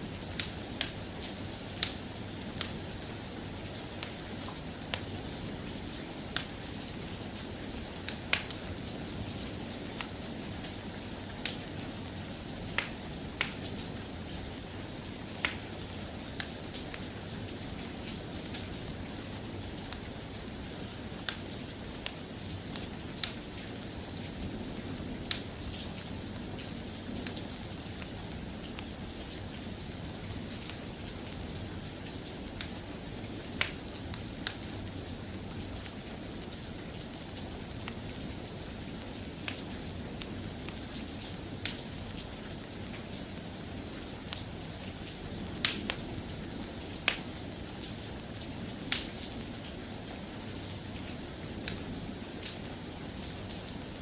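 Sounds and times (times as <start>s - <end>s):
soft rain: 0.0s - 54.0s.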